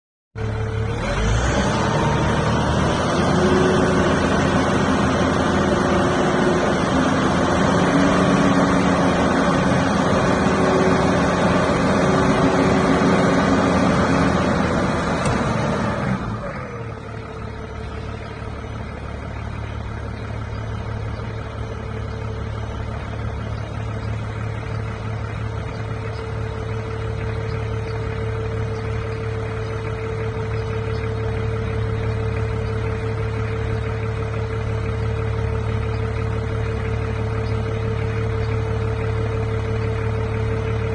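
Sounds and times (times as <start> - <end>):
diesel engine running: 0.4 - 40.9.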